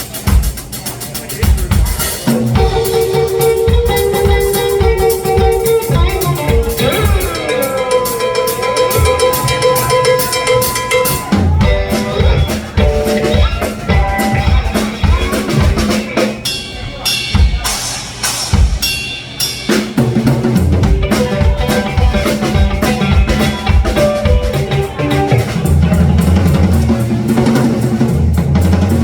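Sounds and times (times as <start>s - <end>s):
drum kit hits: 0.0s - 29.0s
live blues band playing: 0.0s - 29.0s.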